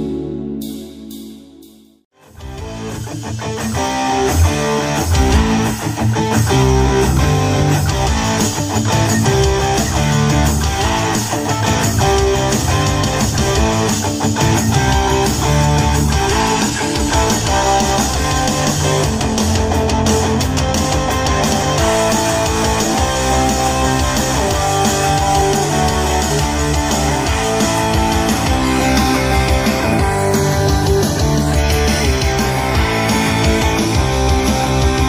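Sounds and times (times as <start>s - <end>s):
rock music with heavy bass: 0.0s - 35.0s.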